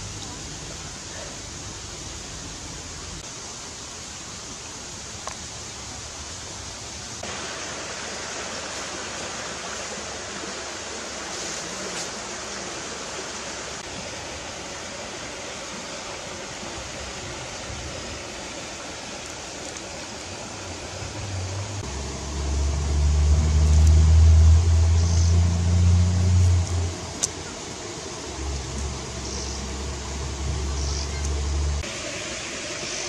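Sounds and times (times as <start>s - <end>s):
rushing outdoor background noise: 0.0s - 33.0s.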